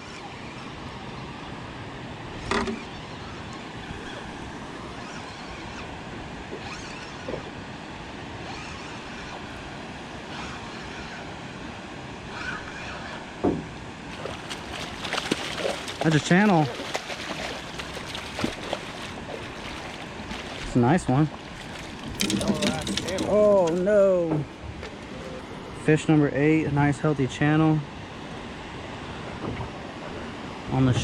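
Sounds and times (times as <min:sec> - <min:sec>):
water noise: 0:00.0 - 0:25.8
wind: 0:00.0 - 0:31.0.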